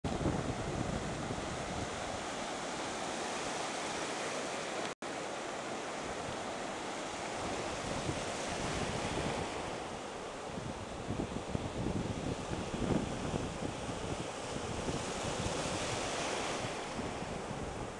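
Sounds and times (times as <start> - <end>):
ocean surf breaking: 0.1 - 17.9.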